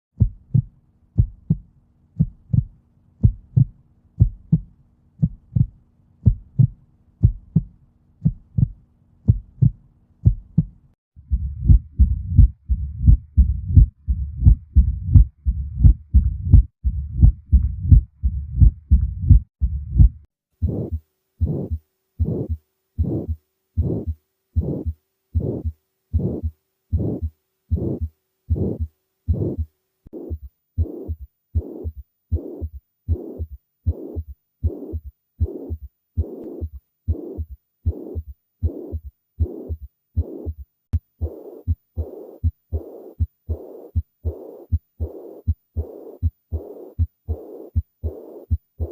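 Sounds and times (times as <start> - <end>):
heartbeat through stethoscope: 0.2 - 48.9
heart murmur rumble: 2.2 - 48.9.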